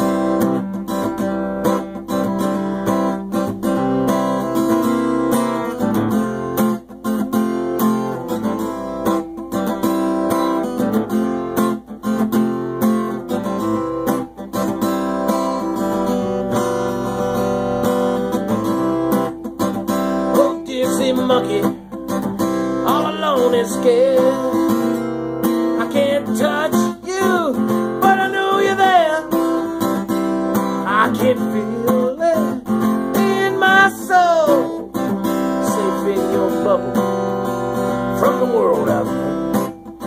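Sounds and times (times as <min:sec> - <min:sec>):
acoustic guitar strummed: 0:00.0 - 0:40.0.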